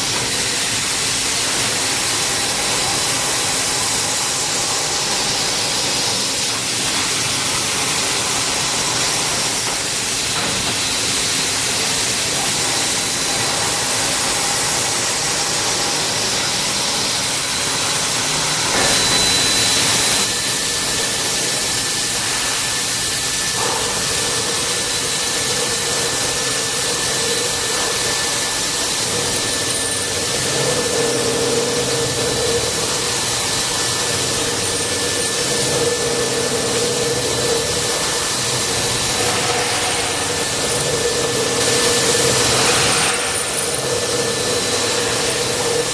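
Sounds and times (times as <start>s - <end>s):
drilling machine whirring: 0.0s - 45.9s
steady whining tones: 0.0s - 45.9s.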